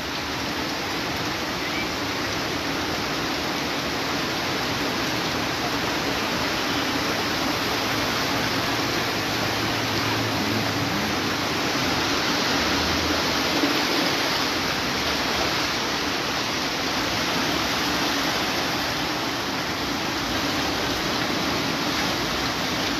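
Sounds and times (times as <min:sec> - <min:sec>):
floodwater rushing: 0:00.0 - 0:22.9
heavy rain falling: 0:00.0 - 0:22.9.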